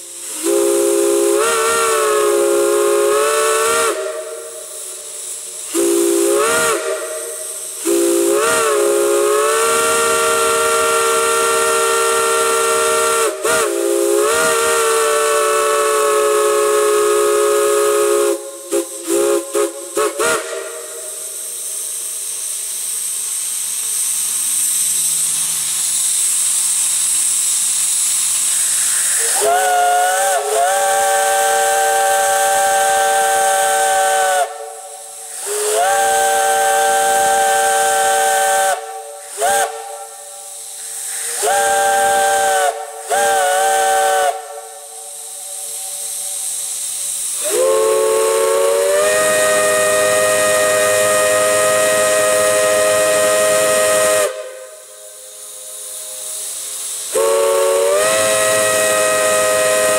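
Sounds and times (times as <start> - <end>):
steam hiss: 0.0 - 59.9.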